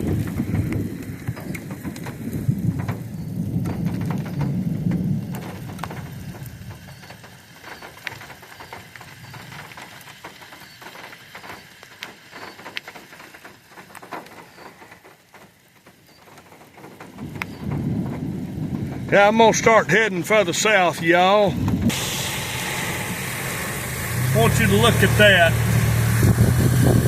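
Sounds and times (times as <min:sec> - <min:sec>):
low rumble of thunder: 0:00.0 - 0:11.5, 0:16.2 - 0:27.0
heavy rain falling: 0:00.0 - 0:27.0
raindrops ticking close by: 0:00.0 - 0:27.0.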